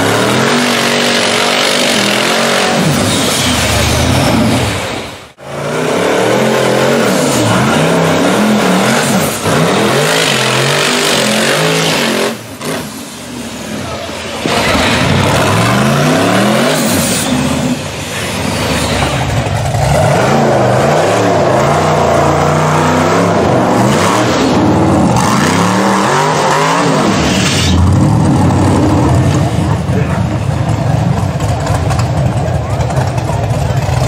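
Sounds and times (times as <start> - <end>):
buggy engine revving hard: 0.0 - 13.8, 14.4 - 34.0.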